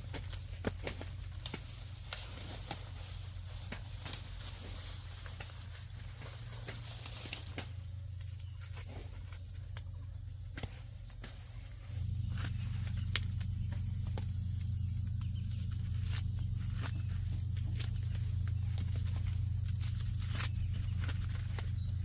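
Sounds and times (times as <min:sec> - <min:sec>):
high insect chirring: 0:00.0 - 0:22.0
low steady hum: 0:00.0 - 0:22.0.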